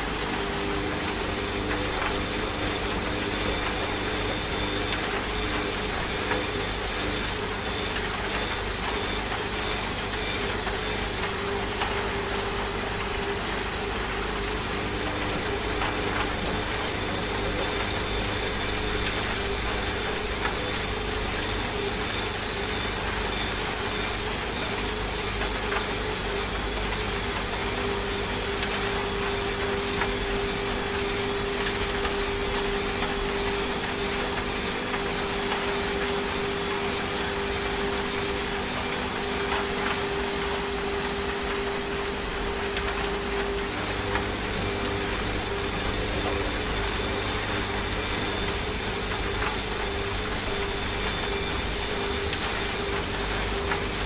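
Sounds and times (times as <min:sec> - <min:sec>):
rain falling: 0:00.0 - 0:54.0
washing machine motor hum: 0:00.0 - 0:54.0.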